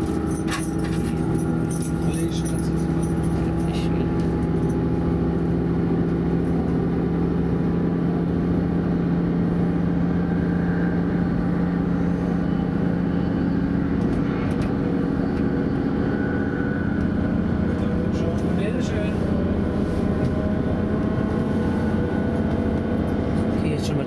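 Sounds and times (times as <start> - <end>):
diesel railcar engine drone: 0.0 - 24.0
wheels rumbling on track: 0.0 - 24.0.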